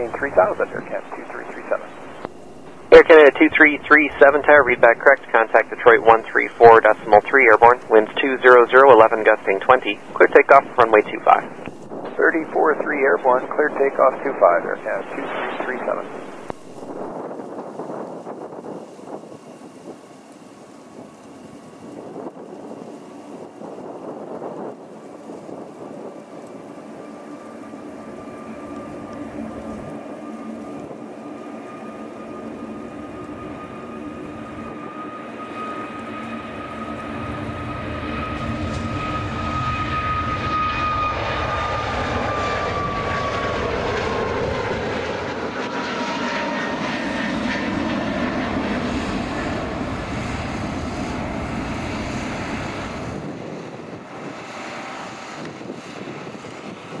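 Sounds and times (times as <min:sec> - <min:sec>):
jet engines at takeoff: 0:00.0 - 0:57.0.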